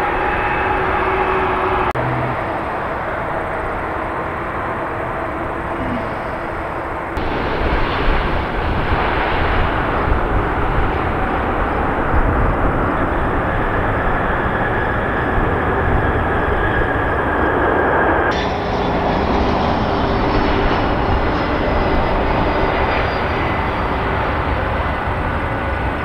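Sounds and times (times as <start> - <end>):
jet engine whine: 0.0 - 26.0
jet engines roaring: 0.0 - 26.0.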